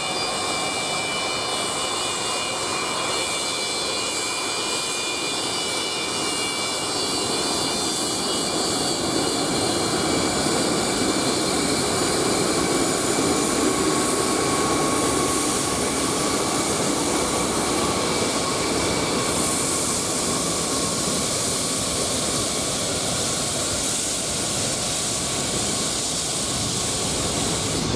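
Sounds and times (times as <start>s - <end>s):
high multi-tone engine whine: 0.0s - 27.9s
jet engine roar: 0.0s - 27.9s.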